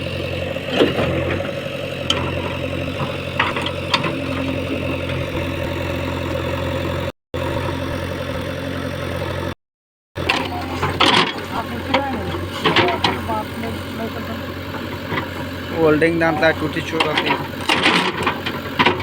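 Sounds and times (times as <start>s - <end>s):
diesel farm machinery engine: 0.0s - 9.6s, 10.2s - 19.0s.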